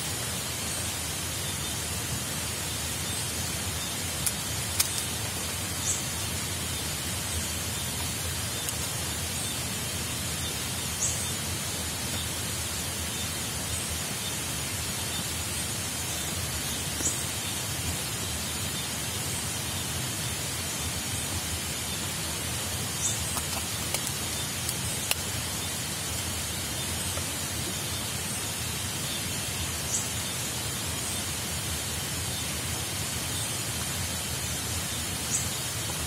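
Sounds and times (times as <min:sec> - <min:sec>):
falling water hiss: 0:00.0 - 0:36.0.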